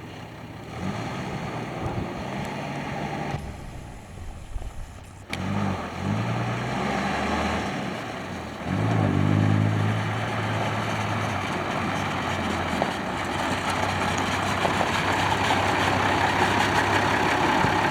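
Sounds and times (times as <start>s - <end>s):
truck engine starting and idling: 0.0s - 17.9s.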